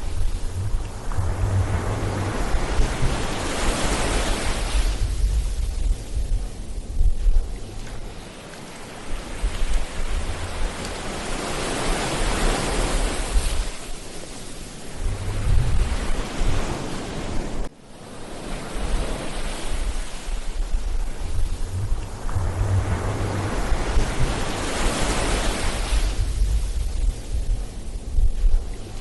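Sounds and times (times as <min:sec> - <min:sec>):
ocean surf breaking: 0:00.0 - 0:29.0
wind rumble on microphone: 0:00.0 - 0:29.0.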